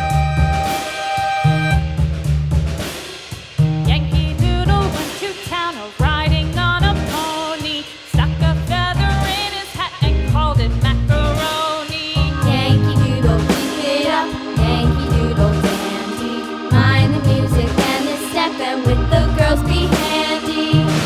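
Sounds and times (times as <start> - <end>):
upbeat song with drum beat: 0.0 - 21.0.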